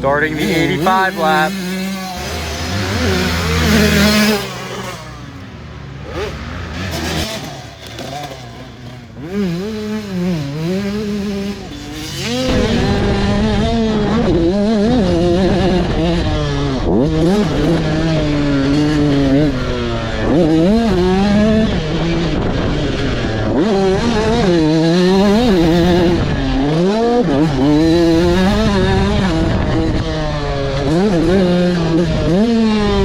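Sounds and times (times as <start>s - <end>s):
motocross bike engine revving: 0.0s - 33.0s.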